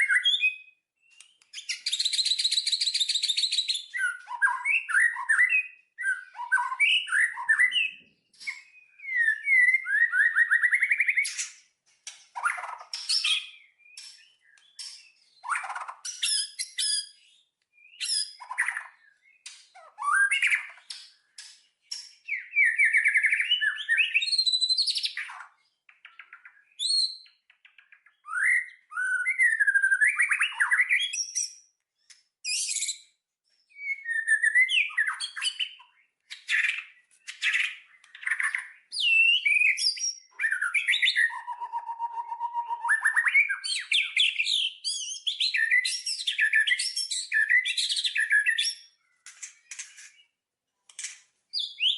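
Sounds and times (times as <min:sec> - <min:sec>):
songbird singing with trills: 0:00.0 - 0:50.4, 0:51.1 - 0:51.9.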